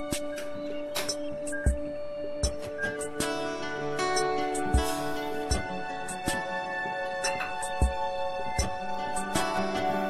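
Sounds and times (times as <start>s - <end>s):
instrumental music with soft beat: 0.0s - 10.0s.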